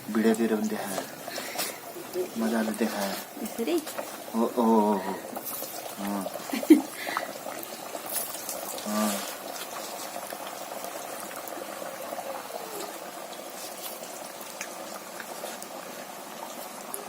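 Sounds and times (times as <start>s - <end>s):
fritters sizzling in hot oil: 0.0s - 17.0s
faint small crackles: 0.8s - 4.3s, 5.3s - 17.0s.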